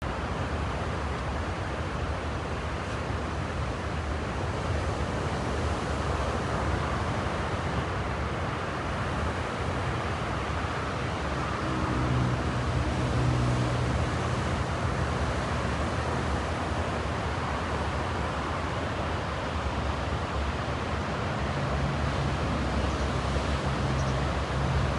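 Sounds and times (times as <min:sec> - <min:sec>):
low engine hum: 0:00.1 - 0:24.9
ocean waves breaking: 0:00.3 - 0:24.9.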